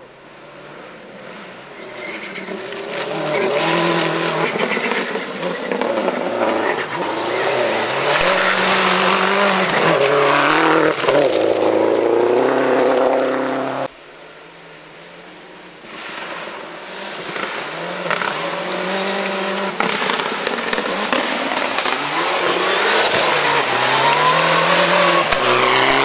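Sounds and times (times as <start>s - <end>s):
rally car engine revving past: 1.2s - 13.9s, 15.9s - 26.0s.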